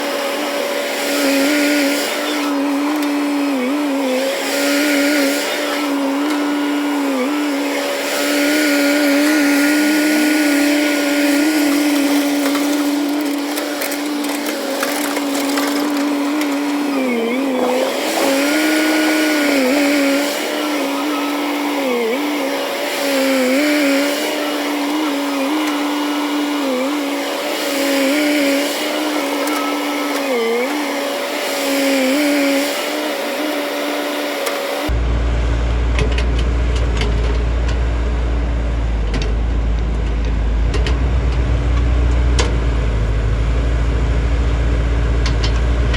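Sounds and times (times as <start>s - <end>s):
excavator engine running: 0.0s - 31.2s, 34.9s - 45.9s.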